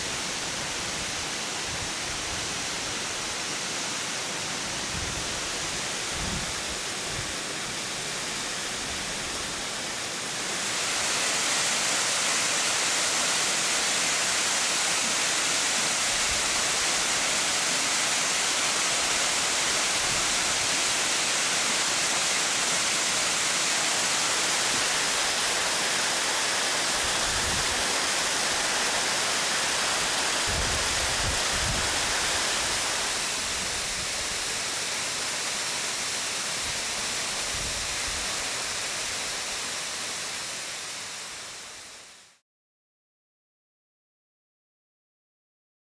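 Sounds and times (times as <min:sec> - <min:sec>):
waterfall rushing: 0:00.0 - 0:42.3.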